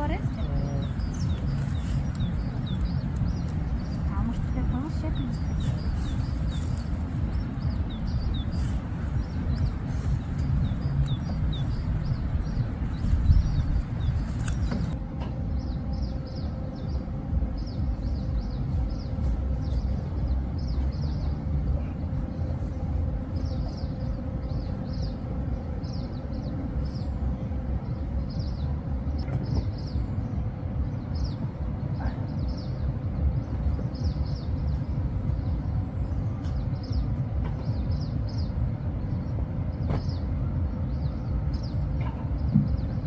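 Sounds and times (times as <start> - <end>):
small birds chirping: 0.0 - 43.0
steady low rumble: 0.0 - 43.0.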